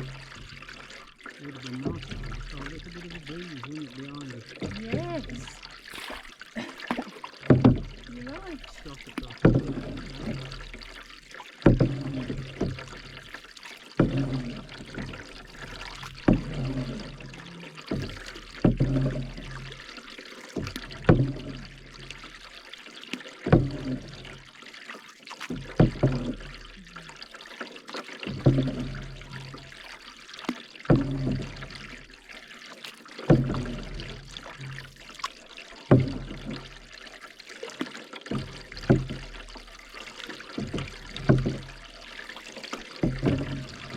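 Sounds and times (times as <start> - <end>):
paddle splashing in water: 0.0 - 43.9
water dripping off paddle: 0.0 - 43.9.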